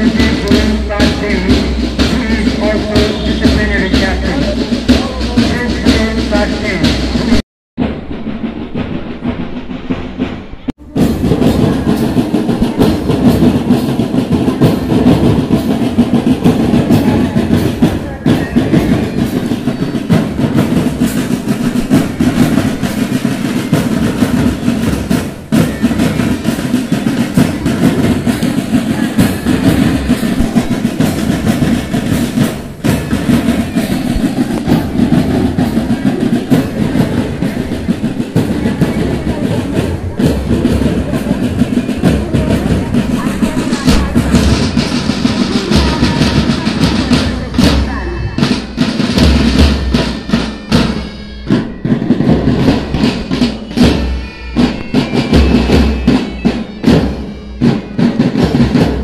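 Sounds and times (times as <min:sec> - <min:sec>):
marching drum band: 0:00.0 - 0:59.0.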